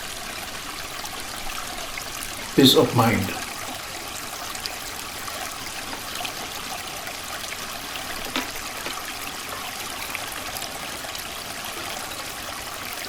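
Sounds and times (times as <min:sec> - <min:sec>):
creek water trickling: 0:00.0 - 0:13.0.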